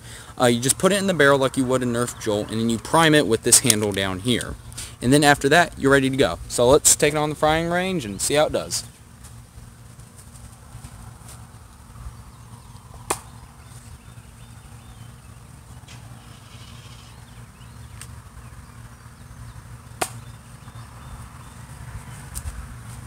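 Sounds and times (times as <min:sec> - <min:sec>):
low outdoor rumble: 0:00.0 - 0:23.0.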